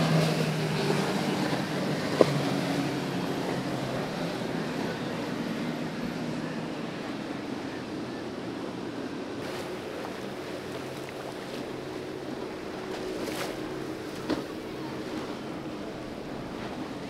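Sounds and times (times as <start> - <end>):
outboard engines running: 0.0 - 17.0
water rushing and spray: 0.0 - 17.0.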